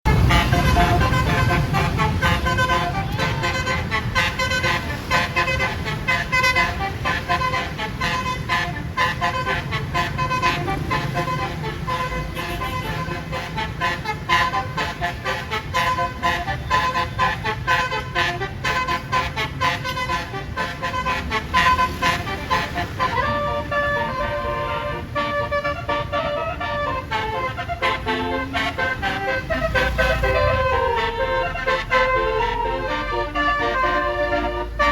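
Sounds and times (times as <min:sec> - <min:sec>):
bus engine rumble: 0:00.0 - 0:34.9
bus horn playing melody: 0:00.0 - 0:34.9.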